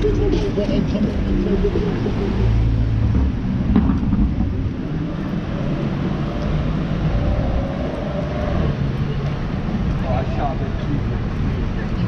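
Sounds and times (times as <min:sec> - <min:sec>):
passing cars and truck rumbling: 0:00.0 - 0:12.0.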